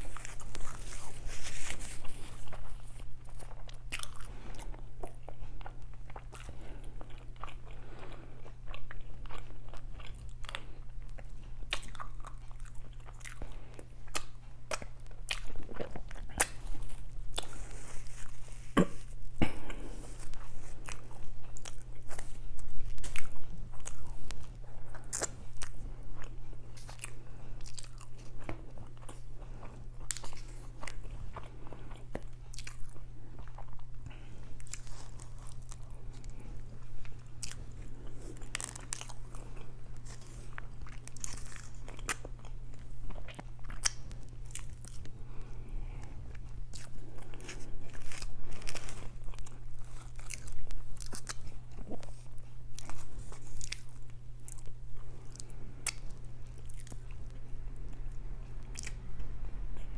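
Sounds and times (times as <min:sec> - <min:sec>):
person chewing and crunching: 0:00.0 - 0:59.9
steady low hum: 0:00.0 - 0:59.9.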